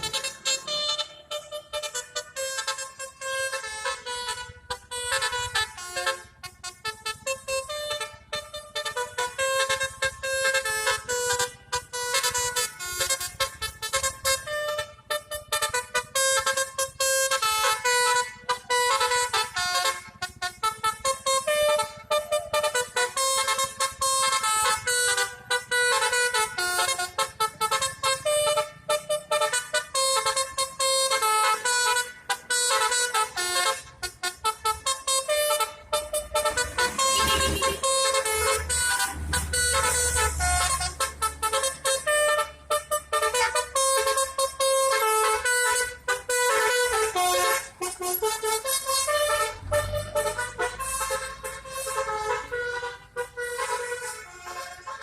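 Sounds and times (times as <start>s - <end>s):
musical bus horn tune: 0.0s - 55.0s.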